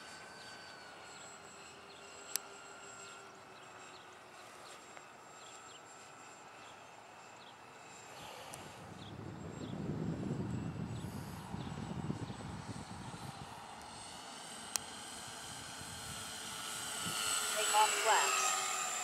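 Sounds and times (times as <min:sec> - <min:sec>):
model plane motors droning: 0:00.0 - 0:19.0.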